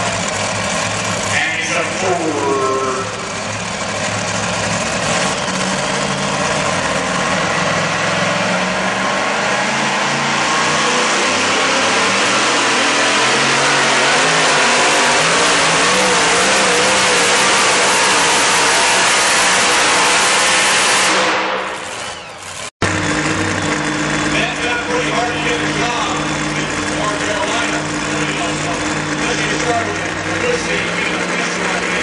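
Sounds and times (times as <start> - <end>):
truck engine running hard under load: 0.0 - 32.0.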